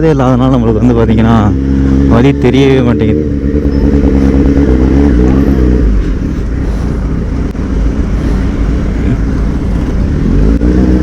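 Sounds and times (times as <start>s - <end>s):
wind and road noise: 0.0s - 11.0s
motorcycle engine running: 0.3s - 11.0s.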